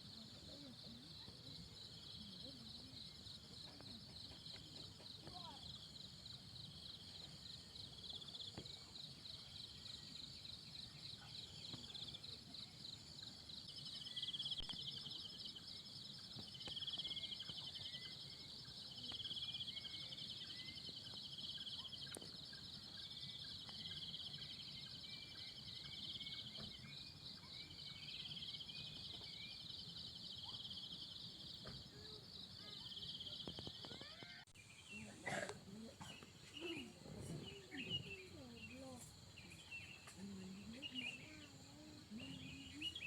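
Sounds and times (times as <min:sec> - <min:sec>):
faint bird chirps: 0:00.0 - 0:43.0.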